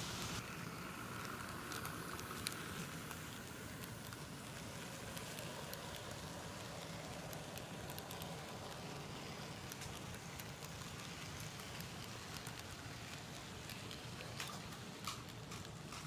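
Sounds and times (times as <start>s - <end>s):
model train rumble: 0.0s - 16.0s
wheels clicking over rail joints: 0.0s - 16.0s.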